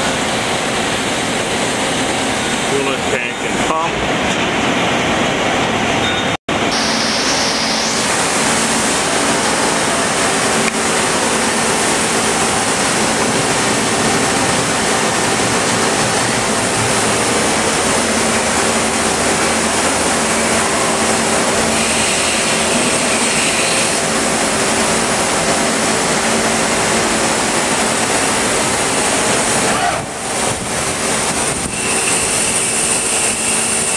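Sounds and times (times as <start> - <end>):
lathe pumps and motors hissing: 6.6 - 33.9.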